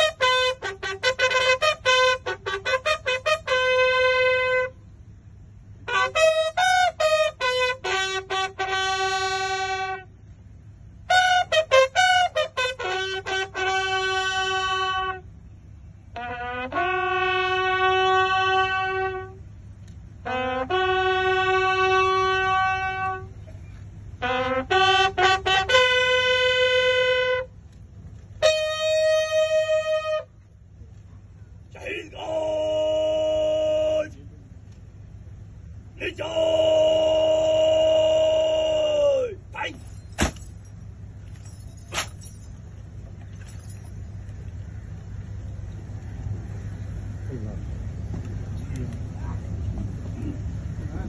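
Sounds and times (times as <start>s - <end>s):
bugle call: 0.0s - 47.3s.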